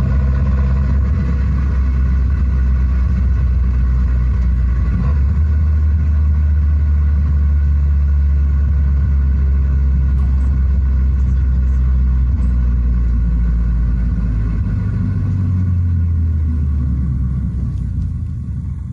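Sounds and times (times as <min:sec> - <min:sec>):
simulated engine drone from speakers: 0:00.0 - 0:18.9.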